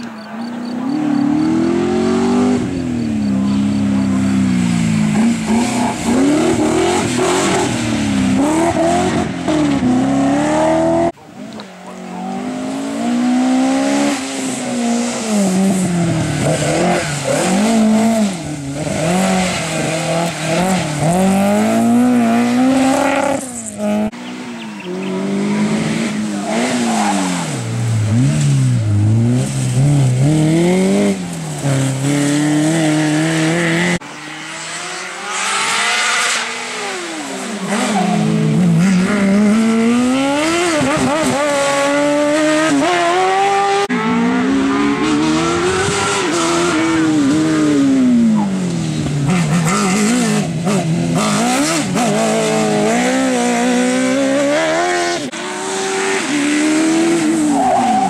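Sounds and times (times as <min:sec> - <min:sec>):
racing car engines revving: 0:00.0 - 0:58.0.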